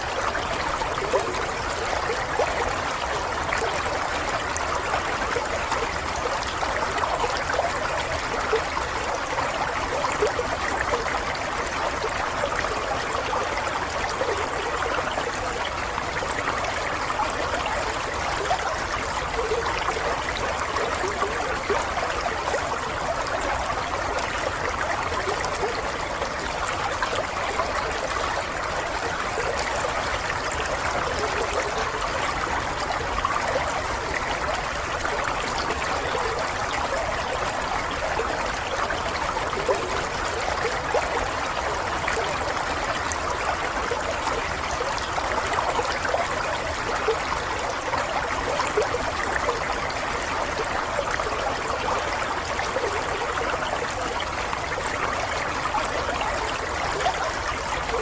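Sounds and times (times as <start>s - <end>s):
stream trickling and babbling: 0.0s - 58.0s.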